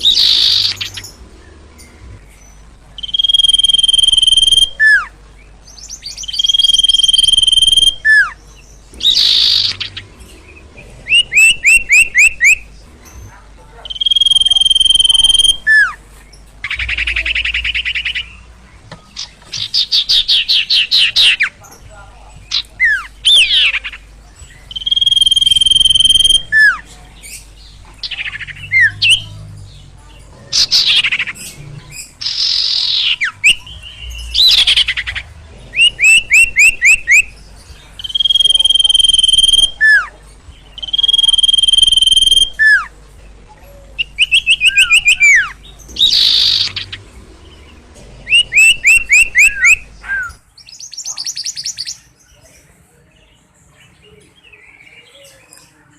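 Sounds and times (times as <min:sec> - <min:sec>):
songbird singing whistles and trills: 0:00.0 - 0:01.2, 0:01.8 - 0:21.7, 0:22.5 - 0:29.5, 0:30.6 - 0:47.0, 0:48.3 - 0:52.4.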